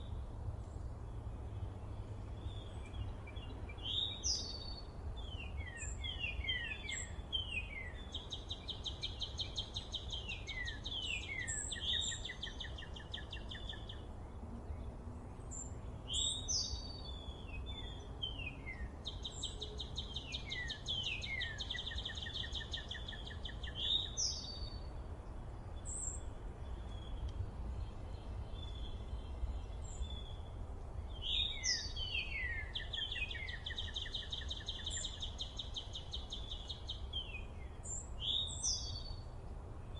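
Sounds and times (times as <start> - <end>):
songbirds whistling and trilling: 0.0 - 25.2, 25.8 - 39.9.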